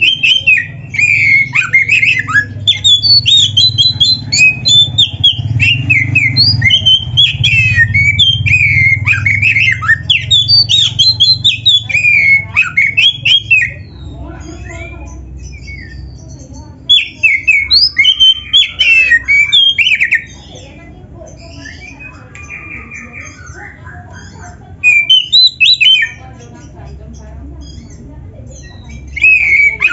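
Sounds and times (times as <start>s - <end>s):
magpie-robin singing: 0.0s - 29.9s.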